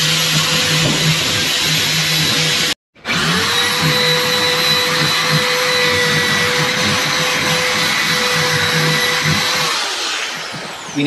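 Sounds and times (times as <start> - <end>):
electric drill boring through wood: 0.0 - 11.0.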